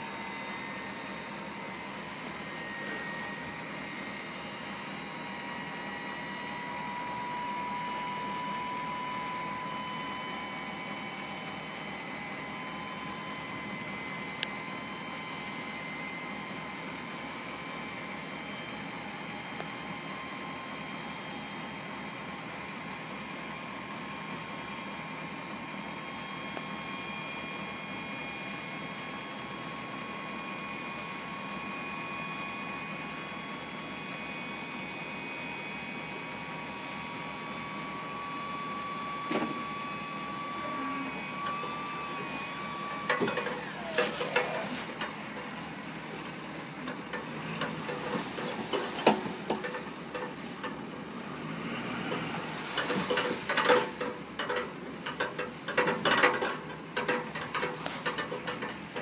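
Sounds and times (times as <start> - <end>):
truck engine and hydraulic whine: 0.0 - 59.0.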